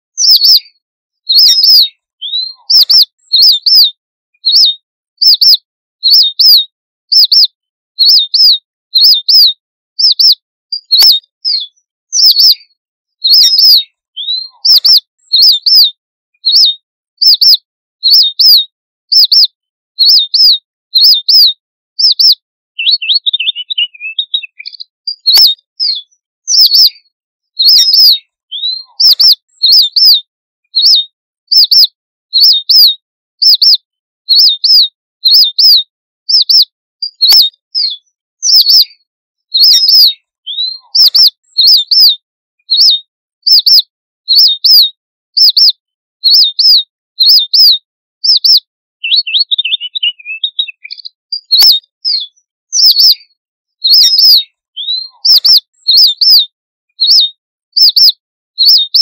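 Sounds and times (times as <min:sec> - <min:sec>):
soft bird twittering: 0:00.1 - 0:30.1, 0:30.7 - 0:43.8, 0:46.3 - 0:56.4
high thin finch calls: 0:00.2 - 0:00.7, 0:01.3 - 0:12.6, 0:13.3 - 0:26.9, 0:27.6 - 0:30.1, 0:30.8 - 0:38.9, 0:39.6 - 0:42.1, 0:42.7 - 0:44.8, 0:45.4 - 0:45.7, 0:46.3 - 0:53.2, 0:53.9 - 0:56.4, 0:57.0 - 0:59.0.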